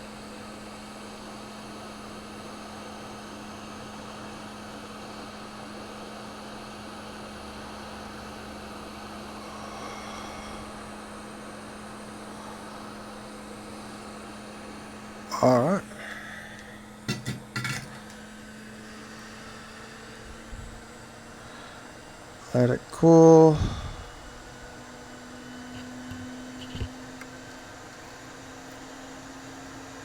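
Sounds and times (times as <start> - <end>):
electrical hum: 0.0 - 30.0
hot air station blowing: 0.0 - 30.0.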